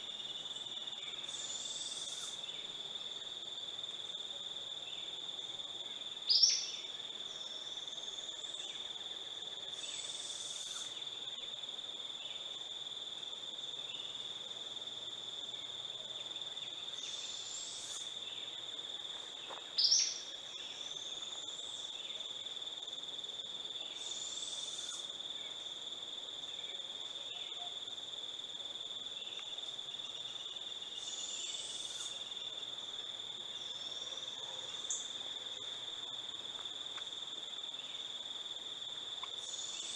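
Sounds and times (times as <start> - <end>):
high insect trill: 0.0 - 39.9.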